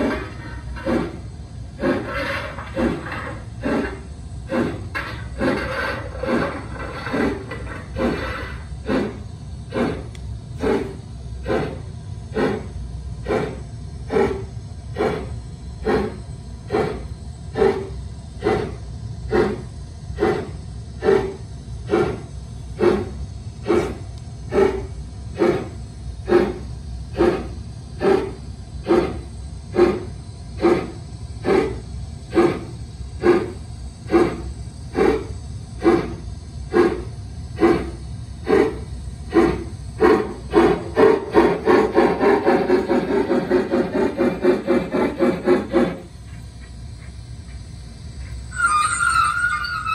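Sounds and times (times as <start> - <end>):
model steam locomotive chuffing: 0.0 - 49.9
train rumbling on track: 0.0 - 49.9.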